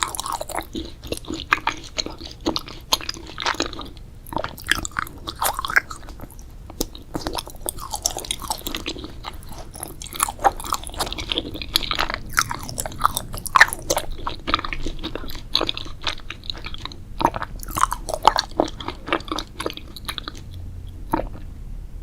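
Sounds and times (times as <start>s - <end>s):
person chewing crunchy food: 0.0s - 21.5s.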